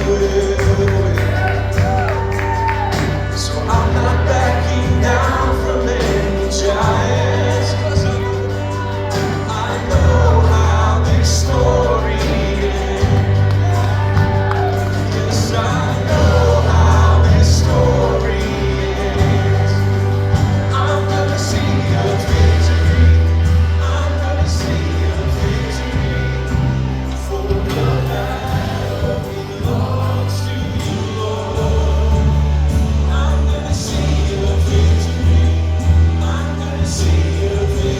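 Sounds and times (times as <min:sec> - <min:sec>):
heavy bass line: 0:00.0 - 0:37.9
singing: 0:00.0 - 0:37.9
worship band playing: 0:00.0 - 0:37.9.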